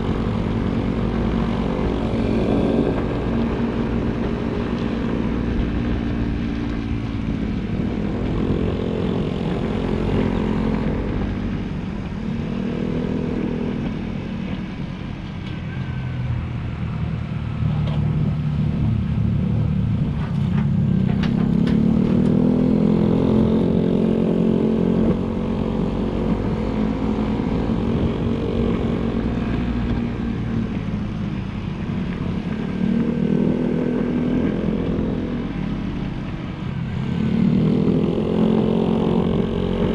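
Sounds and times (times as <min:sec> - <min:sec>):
motorcycle engine revving: 0:00.0 - 0:14.6, 0:17.4 - 0:39.9
wind and road rumble: 0:00.0 - 0:39.9.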